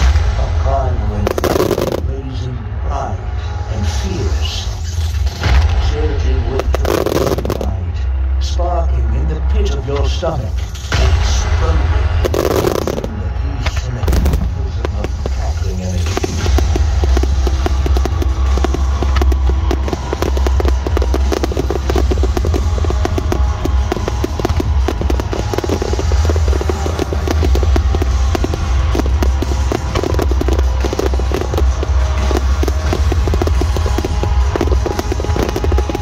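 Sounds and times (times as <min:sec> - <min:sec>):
fireworks bangs and crackles: 0:00.0 - 0:08.0, 0:09.8 - 0:36.0
loud music: 0:00.0 - 0:36.0.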